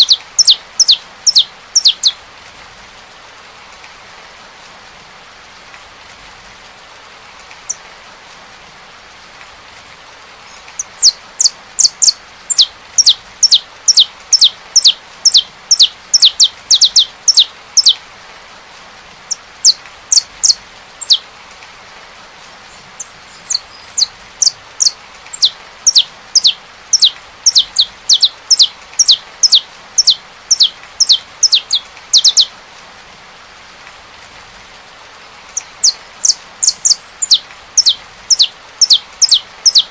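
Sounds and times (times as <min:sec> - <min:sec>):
rain hissing: 0:00.0 - 0:39.9.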